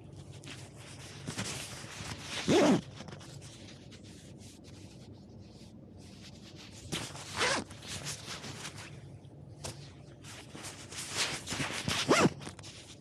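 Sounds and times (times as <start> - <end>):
scratchy rubbing and scraping: 0.3 - 9.0, 10.2 - 13.0.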